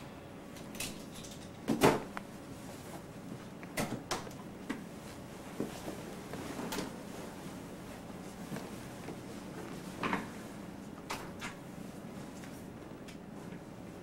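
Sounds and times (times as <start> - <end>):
rustles of person moving: 1.0 - 3.8, 4.4 - 14.0.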